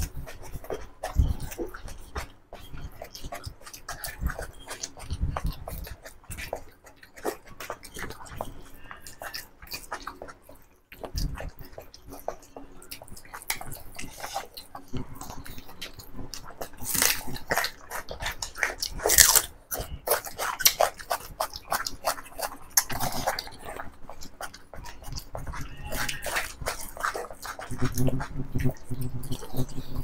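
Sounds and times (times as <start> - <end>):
chewing and lip-smacking: 0.0 - 30.0
fingers working through rice: 0.0 - 30.0.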